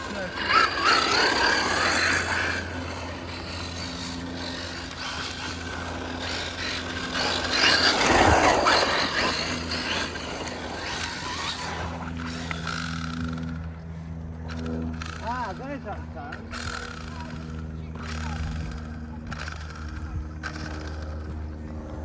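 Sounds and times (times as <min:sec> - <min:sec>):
electric rc car motor running: 0:00.0 - 0:22.0.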